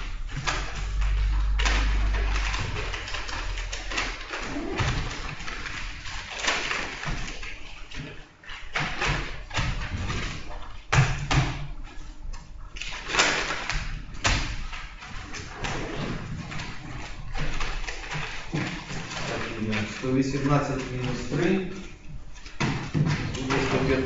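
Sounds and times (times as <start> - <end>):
papers rustling: 0.0 - 24.0.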